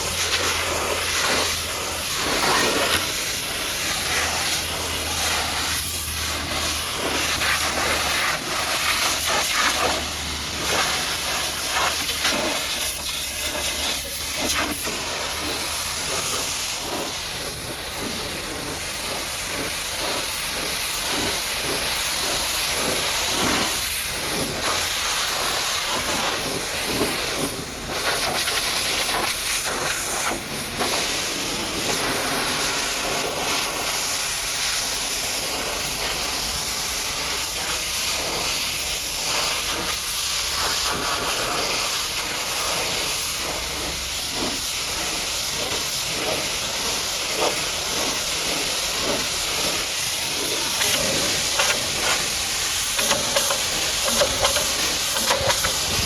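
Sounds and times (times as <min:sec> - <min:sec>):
pressure washer water jet hissing: 0:00.0 - 0:56.0.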